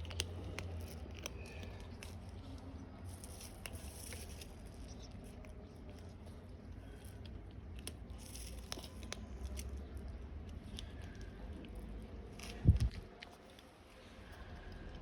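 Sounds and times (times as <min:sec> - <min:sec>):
cats chewing: 0:00.0 - 0:15.0.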